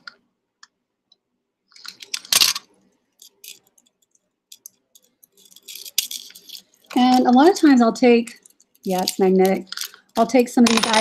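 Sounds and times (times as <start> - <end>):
jewelry clattering: 1.7 - 11.0
jewelry clicking and clinking: 1.7 - 11.0.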